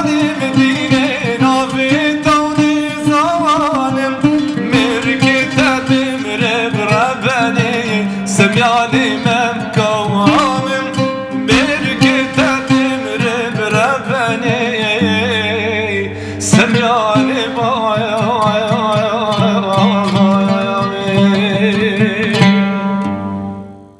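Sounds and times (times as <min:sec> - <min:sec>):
folk song melody: 0:00.0 - 0:23.9.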